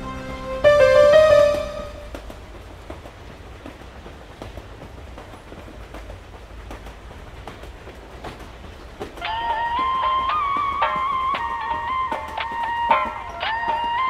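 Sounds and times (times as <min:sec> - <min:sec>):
train rumbling inside carriage: 0:00.0 - 0:14.0.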